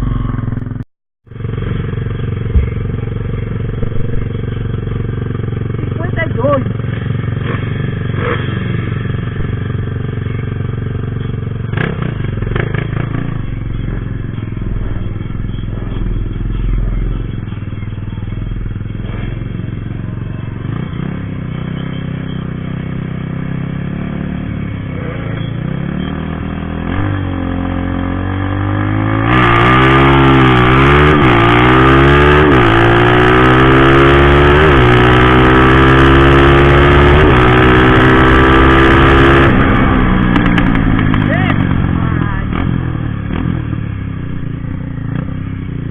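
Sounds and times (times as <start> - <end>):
motorcycle engines idling: 0.0 - 28.9, 36.6 - 45.9
motorcycle engine revving and pulling away: 0.0 - 45.9.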